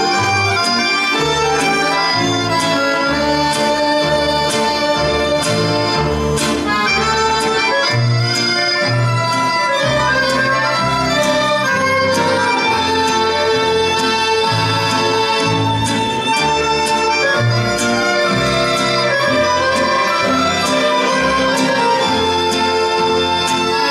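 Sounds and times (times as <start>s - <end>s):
accordions: 0.0s - 23.9s
double bass line: 0.0s - 23.9s
guitar: 0.0s - 23.9s
violins: 0.0s - 23.9s.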